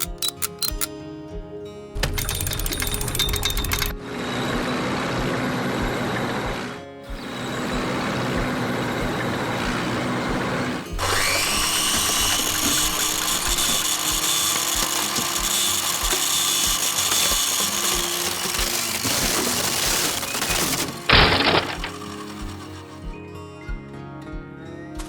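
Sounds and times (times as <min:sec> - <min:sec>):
power tool whirring: 0:00.0 - 0:00.9, 0:02.0 - 0:23.1
background music: 0:00.0 - 0:25.0.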